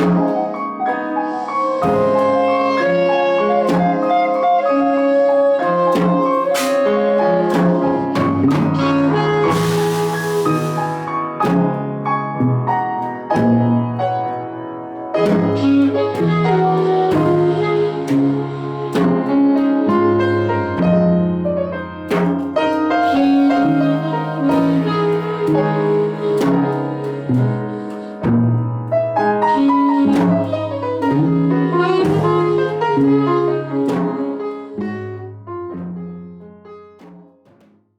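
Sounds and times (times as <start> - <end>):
piano chords: 0.0 - 37.9
bass line: 6.0 - 36.6.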